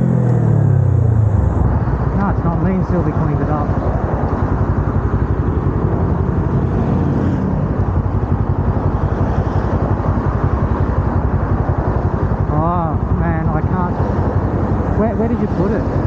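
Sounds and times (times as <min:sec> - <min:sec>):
motorcycle engine idling: 0:00.0 - 0:16.0
passing traffic: 0:00.0 - 0:16.0.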